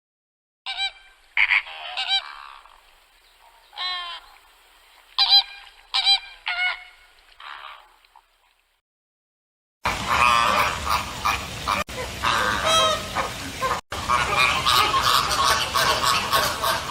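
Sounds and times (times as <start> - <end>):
flamingos honking: 0.7 - 8.5, 9.9 - 16.9.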